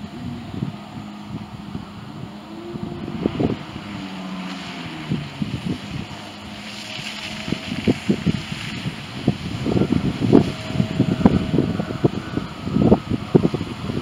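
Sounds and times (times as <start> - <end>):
jet ski engine droning: 0.0 - 14.0
wind buffeting microphone: 0.0 - 14.0.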